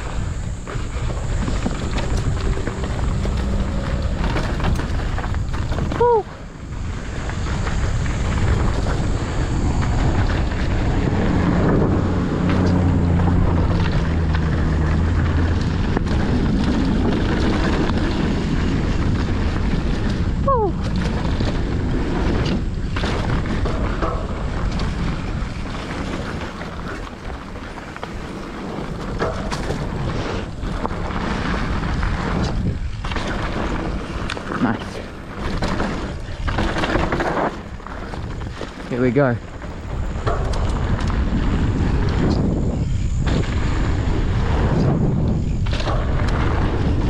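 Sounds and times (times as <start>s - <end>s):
tyres rolling on dirt trail: 0.0s - 47.0s
wind rushing over microphone: 0.0s - 47.0s.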